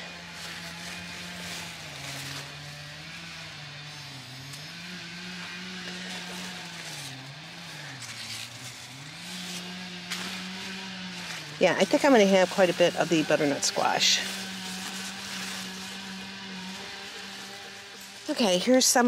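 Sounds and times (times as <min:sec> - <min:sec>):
leaves rustling: 0:00.0 - 0:19.0
motor engine running: 0:00.0 - 0:19.0.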